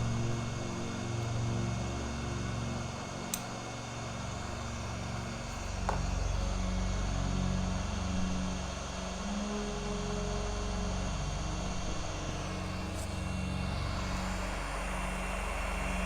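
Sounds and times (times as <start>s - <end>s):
fan running: 0.0s - 16.0s
low hum: 0.0s - 16.0s.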